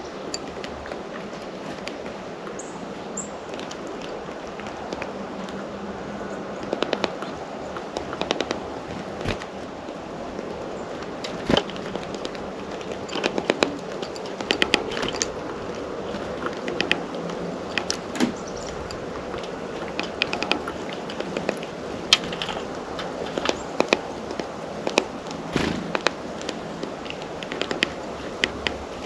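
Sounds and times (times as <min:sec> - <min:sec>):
steady background hiss: 0:00.0 - 0:29.0
birds pecking seed taps: 0:03.2 - 0:05.7, 0:06.6 - 0:09.5, 0:10.4 - 0:29.0.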